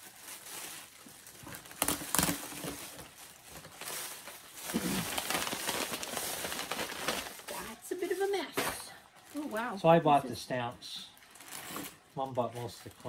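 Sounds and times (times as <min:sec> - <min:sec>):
paper rustling and crinkling: 0:00.0 - 0:09.8, 0:11.2 - 0:13.0.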